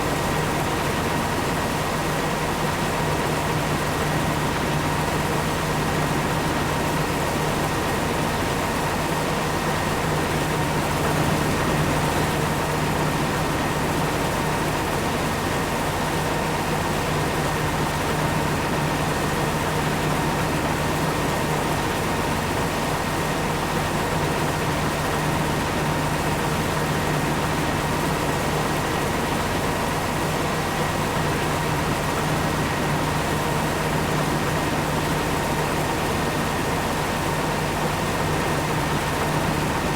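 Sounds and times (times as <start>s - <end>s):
harvesting machinery engine drone: 0.0s - 39.9s.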